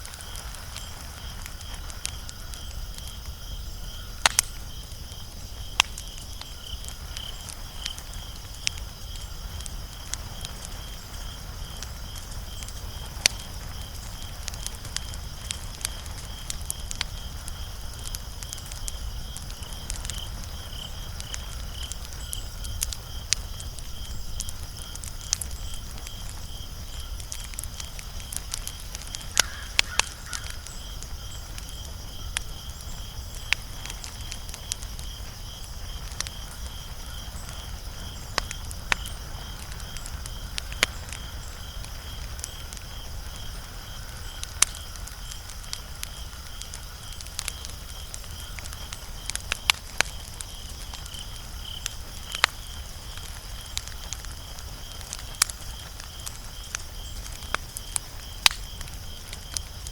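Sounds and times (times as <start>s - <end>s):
burning logs popping: 0.0s - 59.9s
low rumble of flames: 0.0s - 59.9s
wood fire crackling: 0.0s - 59.9s.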